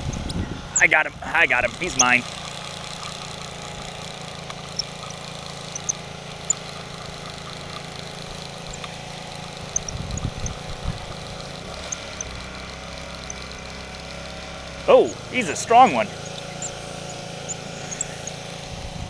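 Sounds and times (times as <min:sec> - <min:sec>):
fishing reel gears whirring: 0:00.0 - 0:00.9, 0:01.6 - 0:19.0.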